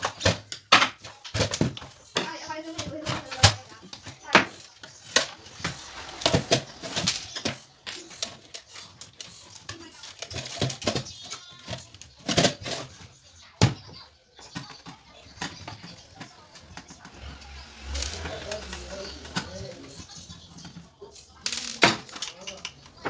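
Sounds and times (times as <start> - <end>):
plastic parts clicking and knocking: 0.0 - 23.0.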